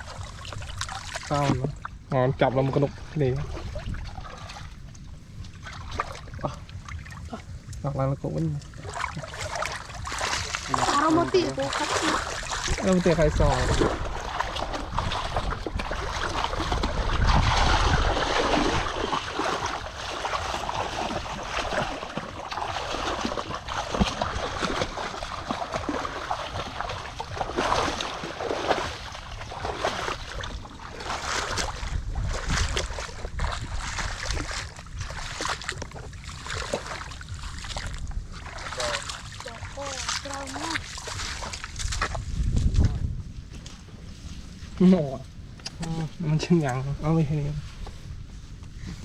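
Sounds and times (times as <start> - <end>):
shallow water sloshing and splashing: 0.0 - 45.2.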